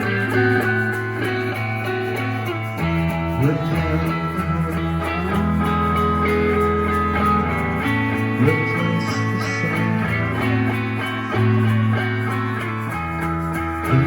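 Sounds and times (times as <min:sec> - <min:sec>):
plucked guitar-like instrument: 0:00.0 - 0:14.0.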